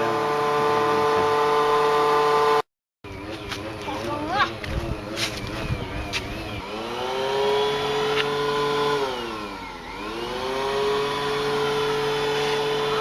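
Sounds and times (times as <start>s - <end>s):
small motor whining: 0.0s - 13.0s.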